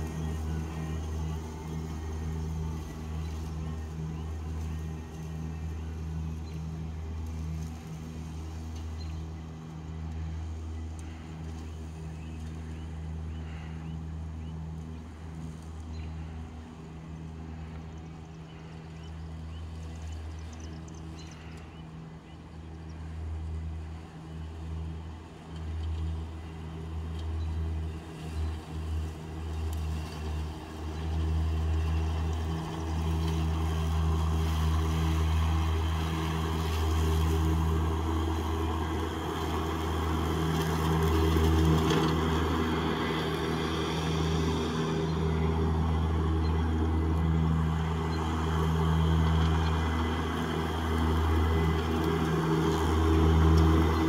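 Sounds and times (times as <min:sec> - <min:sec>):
electric mower motor hum: 0:00.0 - 0:54.0.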